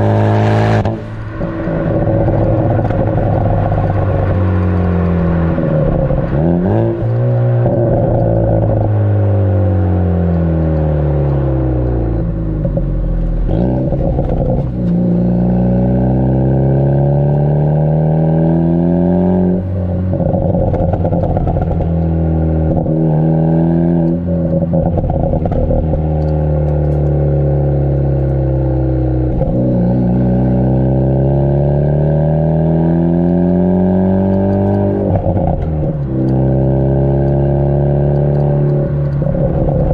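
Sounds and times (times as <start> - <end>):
exhaust pops and crackles: 0.0 - 15.8, 19.4 - 30.8, 33.2 - 39.9
car engine accelerating: 0.0 - 39.9.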